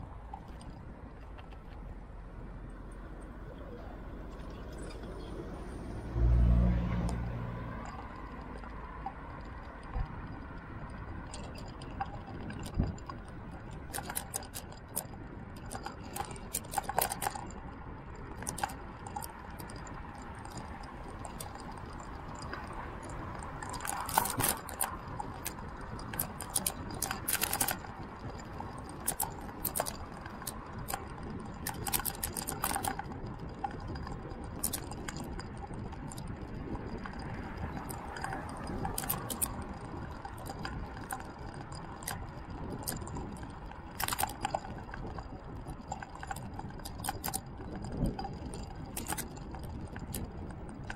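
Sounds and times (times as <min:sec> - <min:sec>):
road and wind rumble: 0:00.0 - 0:50.9
light clicks and rattles: 0:00.2 - 0:50.9.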